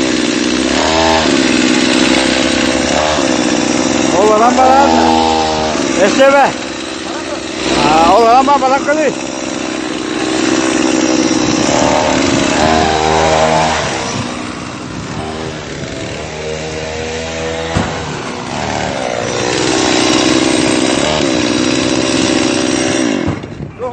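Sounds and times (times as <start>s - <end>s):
two-stroke engine revving: 0.0s - 23.7s.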